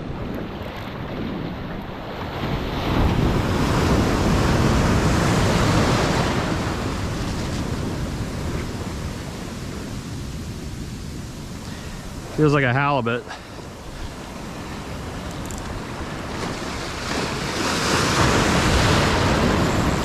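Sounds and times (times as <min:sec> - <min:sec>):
ocean wave breaking: 0:00.0 - 0:20.0.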